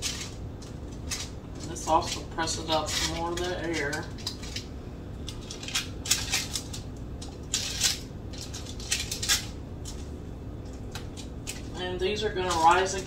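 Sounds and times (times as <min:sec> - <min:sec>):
parchment paper rustling: 0:00.0 - 0:13.0.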